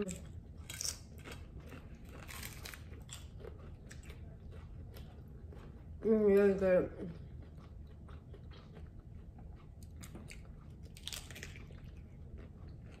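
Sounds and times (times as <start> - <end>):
chewing crunchy taco shells: 0.0 - 13.0.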